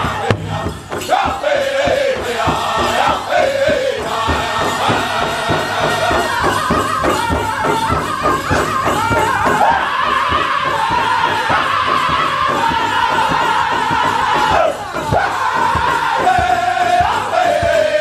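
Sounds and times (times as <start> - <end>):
group singing in unison: 0.0 - 18.0
large hide drum beat: 0.0 - 18.0.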